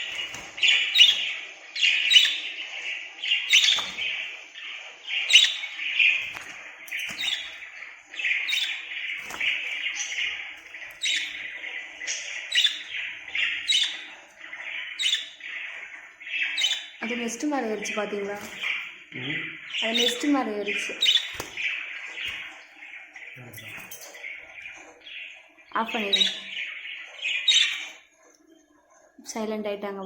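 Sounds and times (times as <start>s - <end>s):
lovebirds chirping and squawking: 0.0s - 30.0s.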